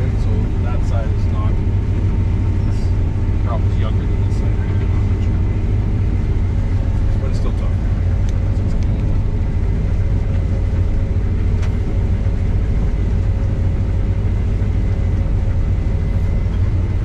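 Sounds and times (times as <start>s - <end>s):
combine harvester engine rumble: 0.0s - 17.0s
faint steady whine: 0.0s - 17.0s.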